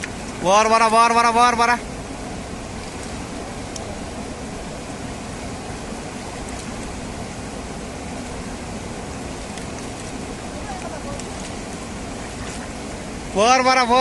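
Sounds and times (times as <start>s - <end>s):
fast stream rushing: 0.0s - 14.0s.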